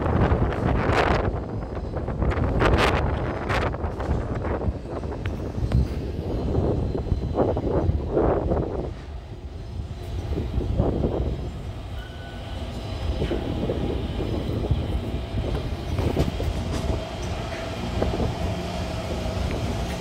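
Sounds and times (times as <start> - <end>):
electric train rumbling on track: 0.0 - 20.0
electrical equipment whine: 0.1 - 20.0.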